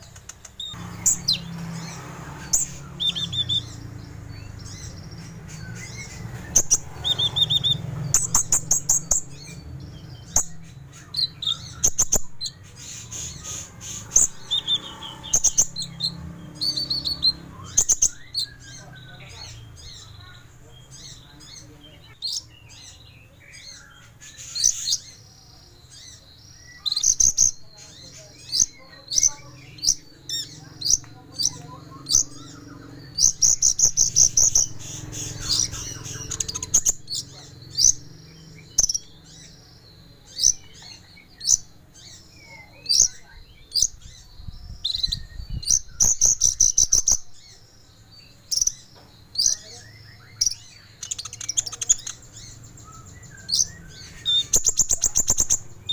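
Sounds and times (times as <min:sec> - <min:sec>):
sunbird chirping and trilling: 0:00.0 - 0:55.9.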